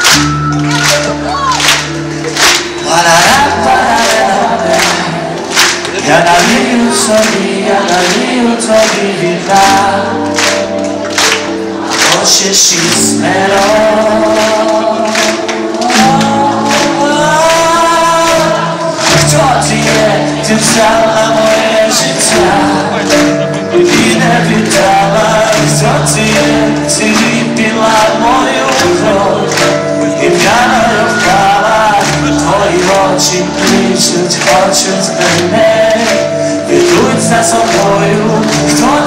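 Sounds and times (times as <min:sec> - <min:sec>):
person singing: 0:00.0 - 0:39.0
rock band playing: 0:00.0 - 0:39.0.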